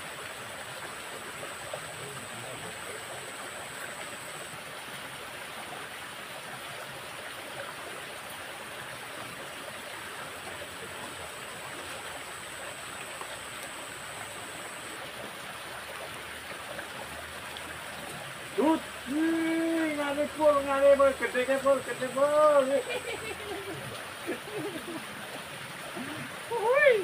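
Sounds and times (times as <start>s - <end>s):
water rushing in a ditch: 0.0s - 27.0s.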